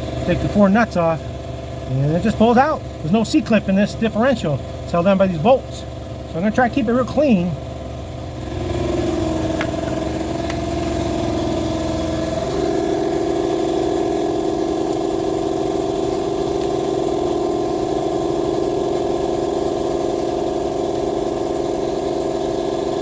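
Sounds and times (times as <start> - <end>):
air compressor motor humming: 0.0 - 23.0.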